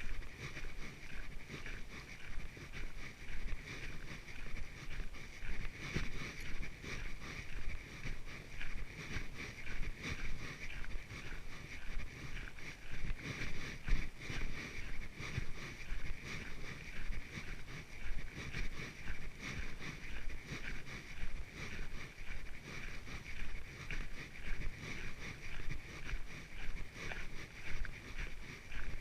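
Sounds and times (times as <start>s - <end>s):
footsteps on a trail: 0.0s - 29.0s.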